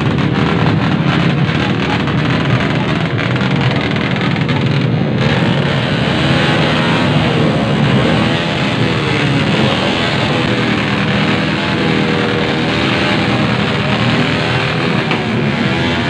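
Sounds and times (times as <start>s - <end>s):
motorcycles revving: 0.0s - 16.0s.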